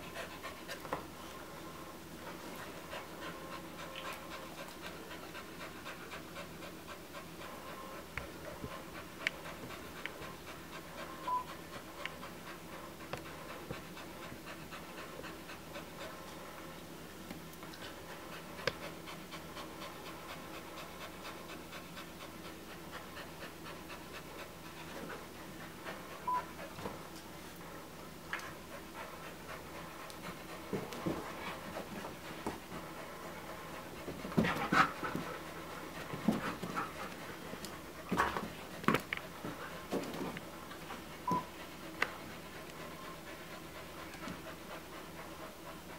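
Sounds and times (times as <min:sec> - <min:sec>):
dog panting: 0:00.0 - 0:16.9, 0:17.6 - 0:45.9.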